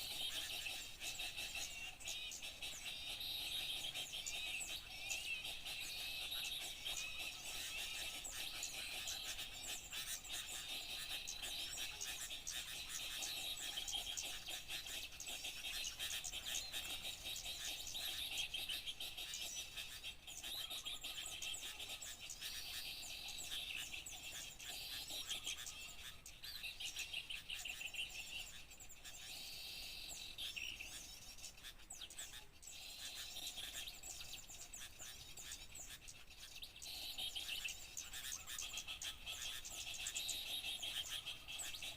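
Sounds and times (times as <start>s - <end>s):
songbirds chirping and twittering: 0.0s - 41.9s.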